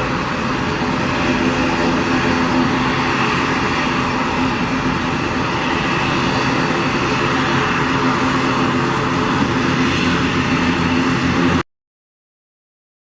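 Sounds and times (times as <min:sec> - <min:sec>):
jet engines roaring: 0:00.0 - 0:11.6.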